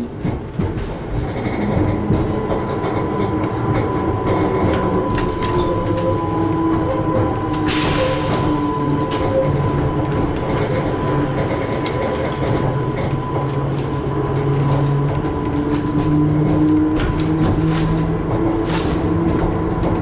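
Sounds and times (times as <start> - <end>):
train drive equipment hum: 0.0 - 20.0
wheels clicking on track: 0.0 - 20.0.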